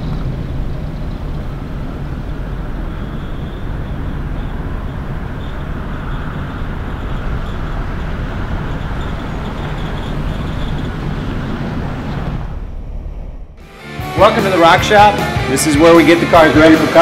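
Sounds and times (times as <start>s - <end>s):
car engine low rumble: 0.0s - 13.6s.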